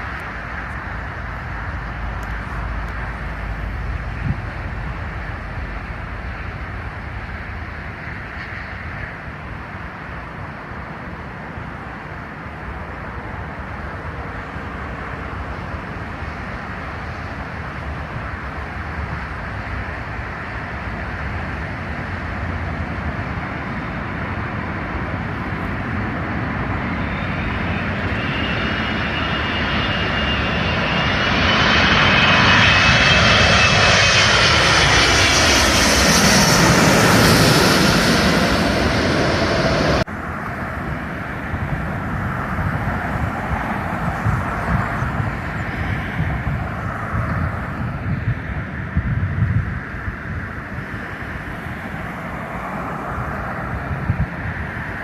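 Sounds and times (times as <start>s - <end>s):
jet engines on landing approach: 0.0s - 55.0s.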